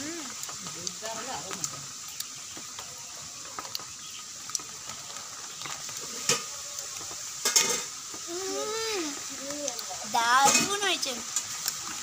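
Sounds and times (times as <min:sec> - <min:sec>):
loud crackle: 0:00.0 - 0:12.0
rain hissing: 0:00.0 - 0:12.0.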